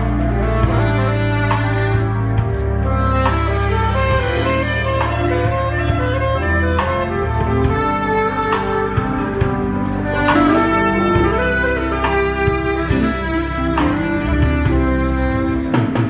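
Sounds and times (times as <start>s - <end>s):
bass line: 0.0s - 16.0s
electric guitar: 0.0s - 16.0s
saxophone: 0.0s - 16.0s
steady drum beat: 0.0s - 16.0s.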